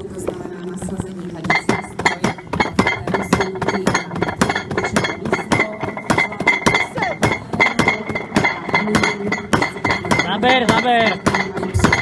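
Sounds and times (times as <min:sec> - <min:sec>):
sledgehammer clanking on metal: 0:01.5 - 0:12.0.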